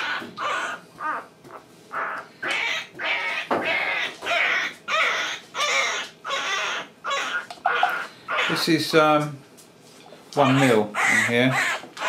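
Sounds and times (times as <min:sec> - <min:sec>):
puppy squeaking and crying: 0:00.0 - 0:08.7, 0:10.4 - 0:12.0.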